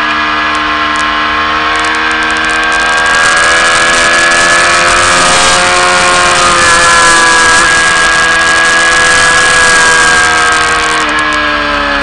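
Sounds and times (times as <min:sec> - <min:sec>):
wind rush on microphone: 0:00.0 - 0:11.6
motorcycle engine running hard: 0:00.0 - 0:12.0.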